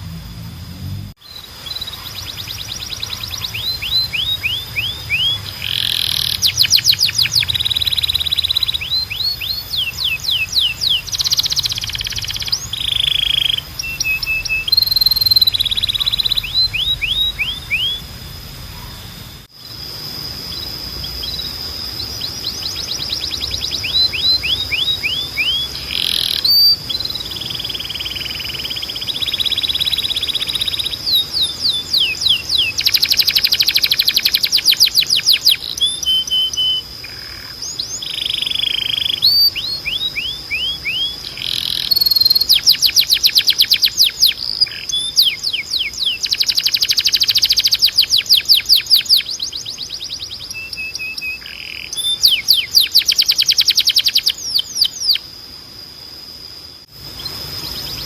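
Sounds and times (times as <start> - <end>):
canary singing: 1.2 - 55.3, 56.9 - 58.0
thin steady high tone: 1.2 - 58.0.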